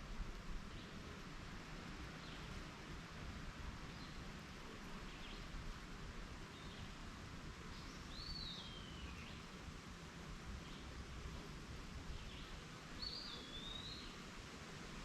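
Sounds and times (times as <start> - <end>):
outdoor background hiss: 0.0 - 15.0
songbirds chirping: 0.5 - 15.0.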